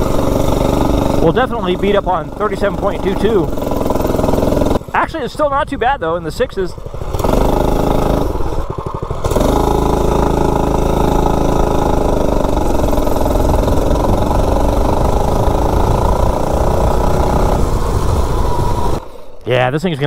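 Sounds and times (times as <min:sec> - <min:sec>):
mini bike engine revving hard: 0:00.0 - 0:04.9, 0:06.7 - 0:19.4.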